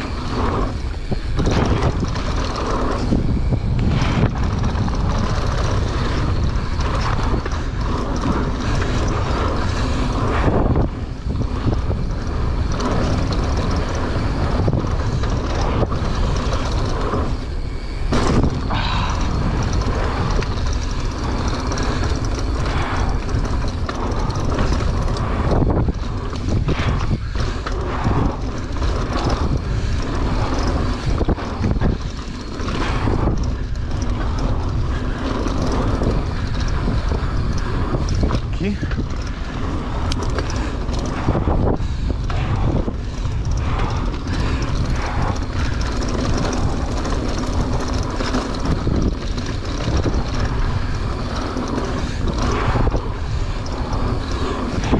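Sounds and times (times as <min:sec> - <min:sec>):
mountain bike rolling on dirt: 0:00.0 - 0:54.9
wind rush on microphone: 0:00.0 - 0:54.9.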